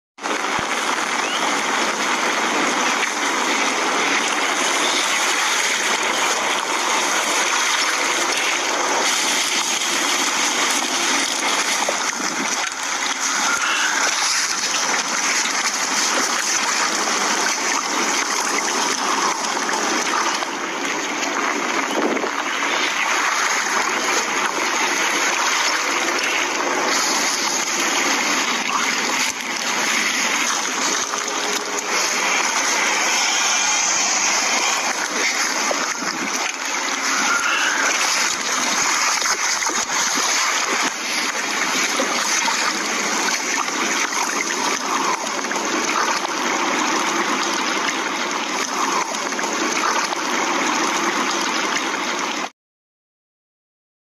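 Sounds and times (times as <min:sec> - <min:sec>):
heavy rain and flooding water: 0:00.2 - 0:52.5.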